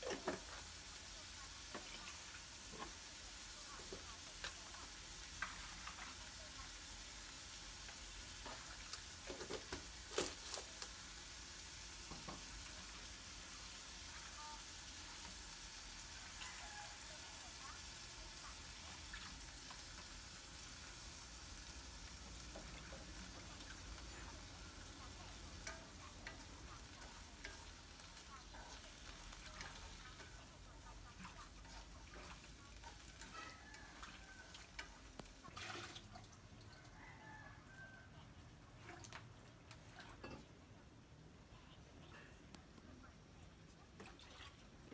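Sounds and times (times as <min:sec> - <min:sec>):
shrimp frying in a wok: 0:00.0 - 0:40.7.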